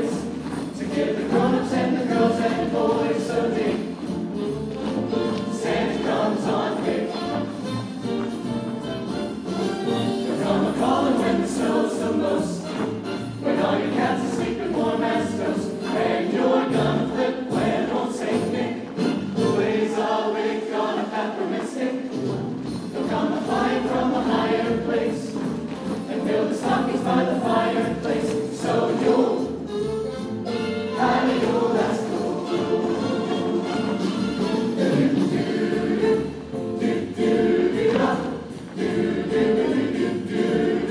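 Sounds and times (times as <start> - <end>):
choir singing: 0.0 - 4.4, 5.2 - 7.6, 10.2 - 29.7, 30.9 - 40.9.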